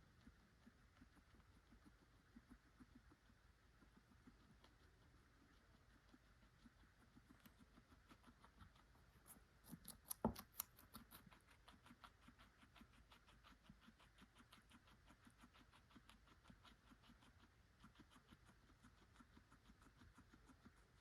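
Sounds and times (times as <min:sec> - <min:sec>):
guinea pig crunching carrot: 0:00.0 - 0:21.0.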